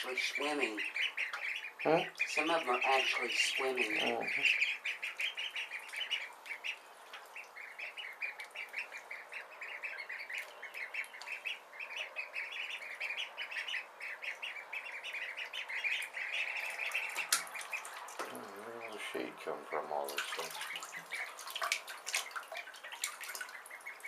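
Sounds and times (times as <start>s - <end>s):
ducklings peeping: 0.0s - 24.0s.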